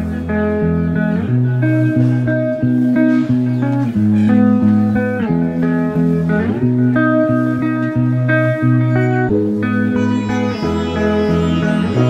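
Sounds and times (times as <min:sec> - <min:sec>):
plucked guitar background music: 0:00.0 - 0:12.0
steady bass line: 0:00.0 - 0:12.0.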